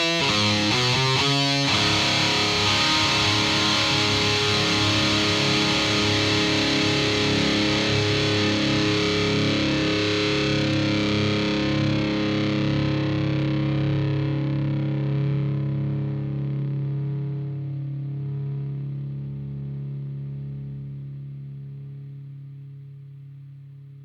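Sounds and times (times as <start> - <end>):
distorted electric guitar chord: 0.0 - 21.0.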